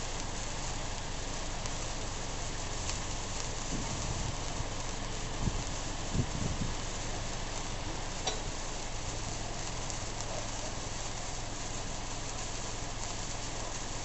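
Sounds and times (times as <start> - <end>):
firework sparks hissing: 0.0 - 14.0
short crackle: 0.0 - 14.0.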